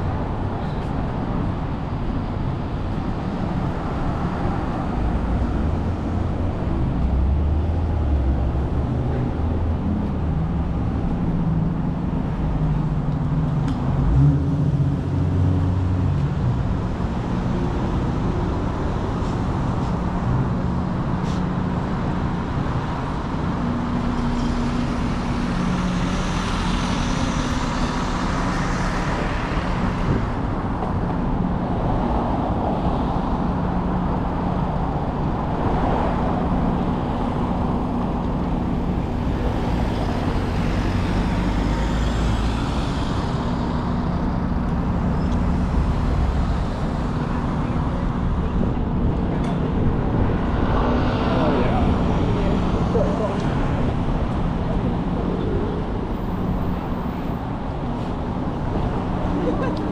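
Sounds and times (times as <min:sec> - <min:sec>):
low engine drone: 0:00.0 - 0:59.9
vehicle engines passing: 0:00.0 - 0:59.9.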